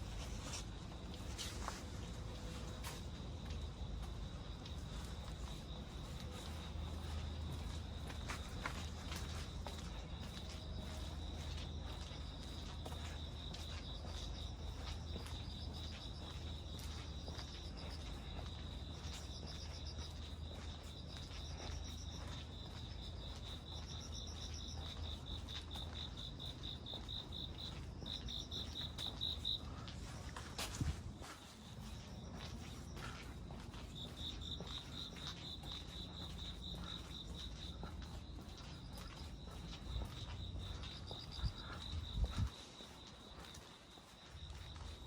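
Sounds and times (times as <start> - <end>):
crickets trilling: 2.2 - 45.0.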